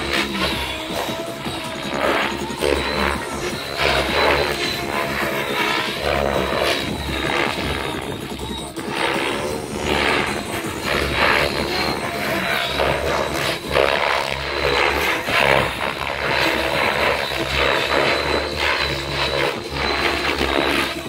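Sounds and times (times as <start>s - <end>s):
helicopter motor and rotor whine: 0.0s - 21.0s.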